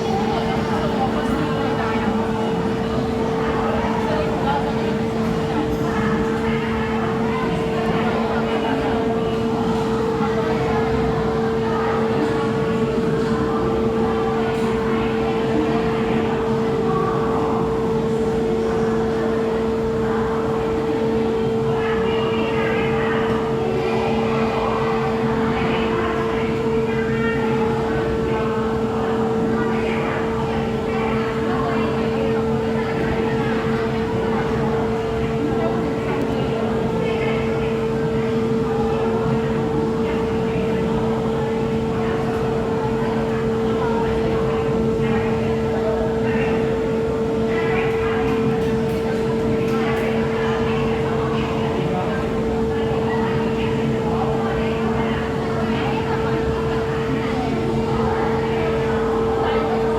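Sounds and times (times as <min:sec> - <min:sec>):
constant hum: 0:00.0 - 0:59.9.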